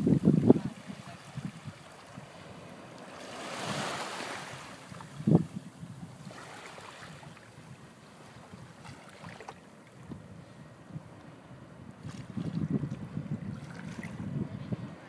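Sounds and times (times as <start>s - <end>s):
wind buffeting microphone: 0.0s - 9.4s, 10.0s - 15.0s
small waves on shore: 0.0s - 15.0s.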